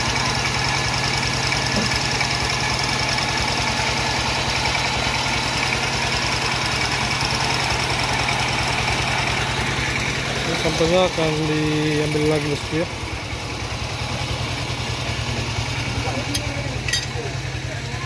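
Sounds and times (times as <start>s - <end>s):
small engine puttering: 0.0s - 18.0s.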